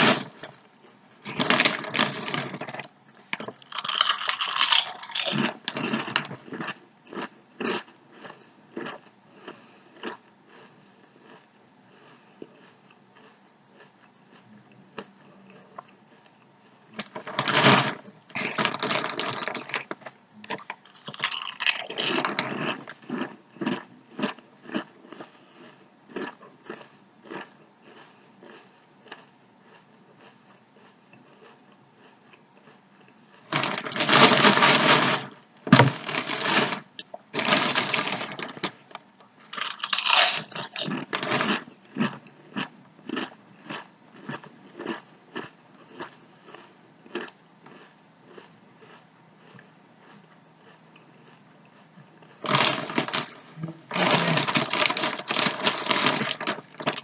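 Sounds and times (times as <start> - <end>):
person crunching chips: 0.0 - 14.4, 15.0 - 57.0.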